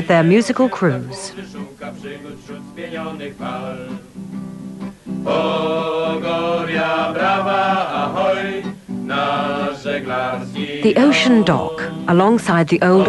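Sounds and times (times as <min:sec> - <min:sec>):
people singing: 0:00.0 - 0:04.1, 0:05.2 - 0:13.0
acoustic guitar: 0:00.0 - 0:13.0.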